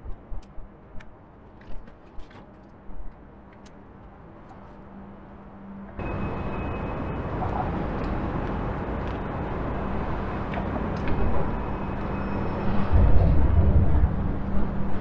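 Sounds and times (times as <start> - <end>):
constant low hum: 0.0 - 15.0
traffic rumble: 0.0 - 15.0.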